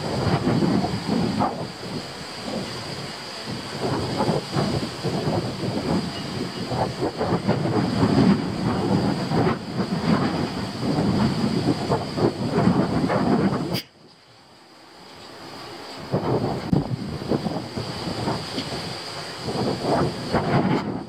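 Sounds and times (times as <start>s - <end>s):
wind buffeting microphone: 0.0s - 14.3s, 15.5s - 21.0s.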